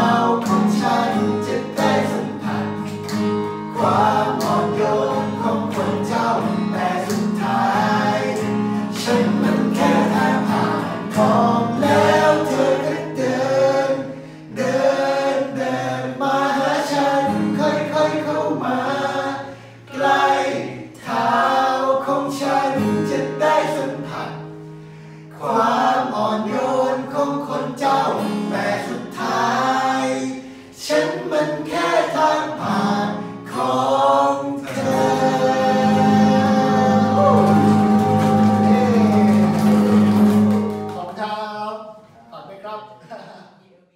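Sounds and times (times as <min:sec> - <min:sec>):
men singing in harmony: 0:00.0 - 0:24.6, 0:25.3 - 0:40.8
acoustic guitar chords: 0:00.0 - 0:41.2.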